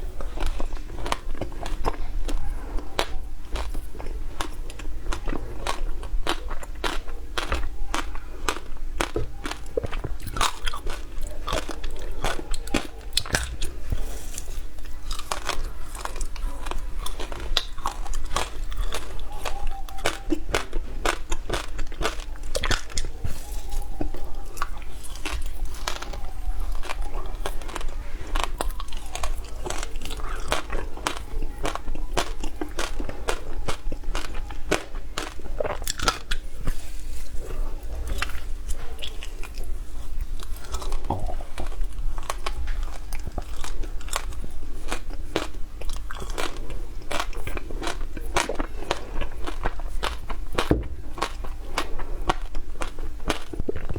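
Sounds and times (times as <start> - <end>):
person chewing crunchy ice: 0.0 - 53.9.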